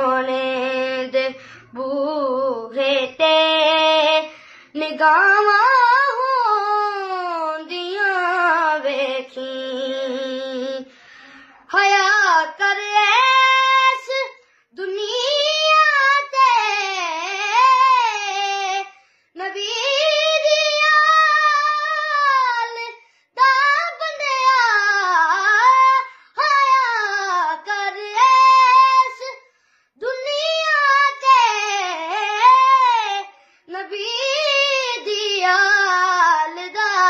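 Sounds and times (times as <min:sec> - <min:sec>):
boy singing unaccompanied: 0:00.0 - 0:10.9, 0:11.7 - 0:29.4, 0:30.0 - 0:37.0.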